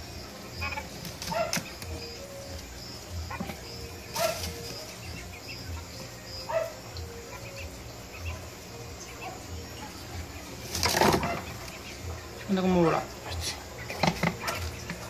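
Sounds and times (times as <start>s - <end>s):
young quails peeping: 0.0s - 15.0s.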